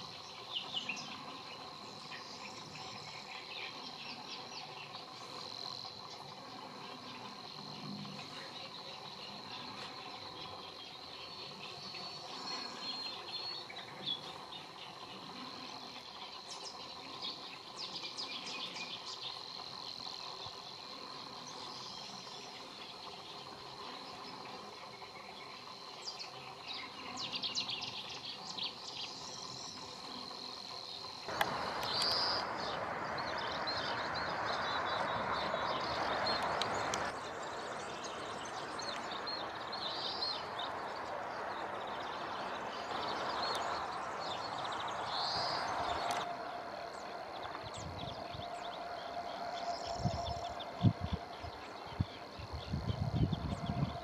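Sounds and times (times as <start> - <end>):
high-pitched insect trill: 0.0 - 54.0
hissy background noise: 0.0 - 54.0.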